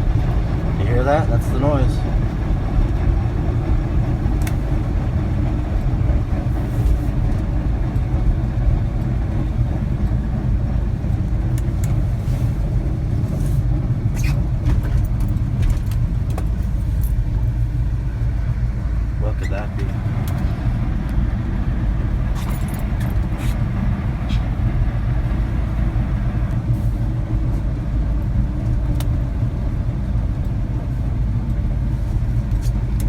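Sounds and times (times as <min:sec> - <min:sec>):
low vehicle rumble: 0:00.0 - 0:33.0.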